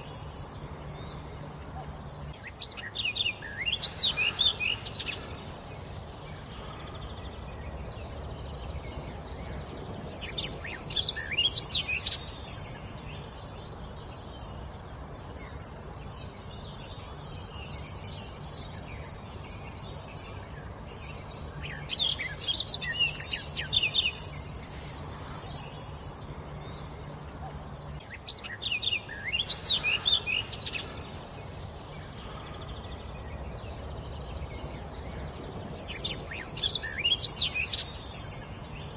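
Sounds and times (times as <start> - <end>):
songbird singing: 0.0 - 38.9
steady background noise: 0.0 - 38.9.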